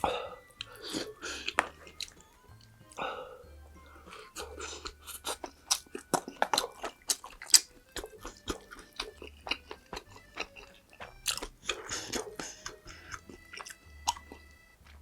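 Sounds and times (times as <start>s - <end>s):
wet chewing clicks and smacks: 0.0s - 3.1s, 3.7s - 15.0s
chewing snaps: 0.0s - 3.2s, 3.8s - 15.0s.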